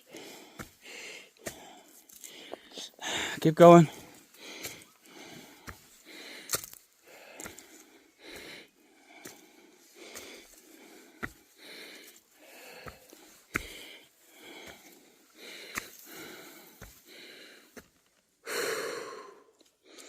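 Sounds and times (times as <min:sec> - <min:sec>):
person breathing heavily: 0:00.0 - 0:20.0
footsteps on stone stairs: 0:00.1 - 0:03.3, 0:03.9 - 0:18.0.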